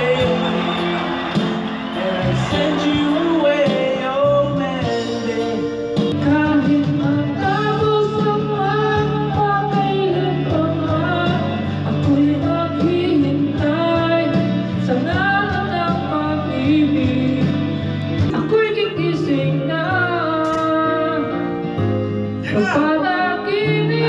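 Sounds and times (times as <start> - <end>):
person singing: 0.0 - 21.7, 22.3 - 24.0
karaoke backing track: 0.0 - 24.0.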